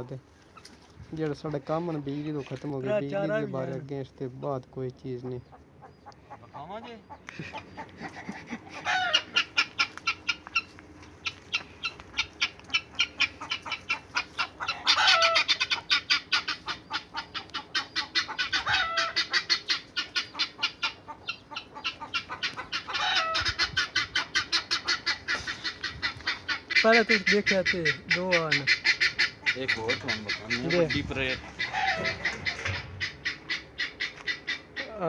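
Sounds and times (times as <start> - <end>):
fowl clucking: 5.2 - 35.0.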